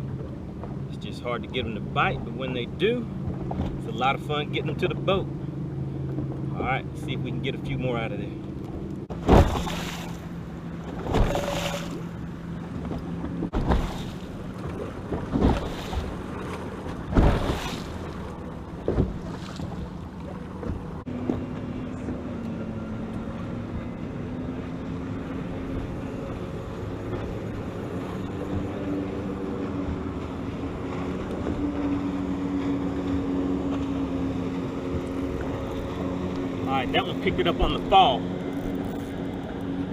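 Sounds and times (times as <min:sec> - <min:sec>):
water slapping boat hull: 0:00.0 - 0:39.9.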